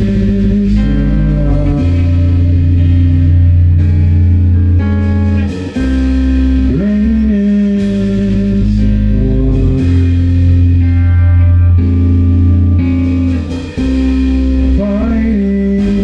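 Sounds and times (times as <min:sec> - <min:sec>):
guitar note sliding up: 0:00.0 - 0:16.0
rock band playing guitar chords: 0:00.0 - 0:16.0.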